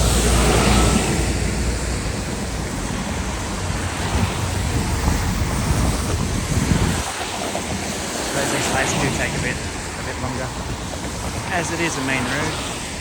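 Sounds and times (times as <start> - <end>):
road traffic rushing: 0.0 - 13.0
wind buffeting microphone: 0.0 - 13.0.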